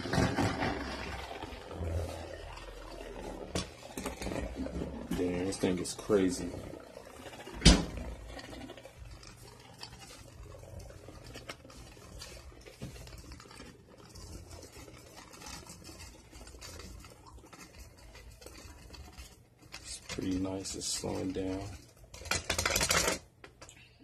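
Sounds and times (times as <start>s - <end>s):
faint scratching: 0.0s - 23.2s
spinning top whirring: 0.0s - 23.4s.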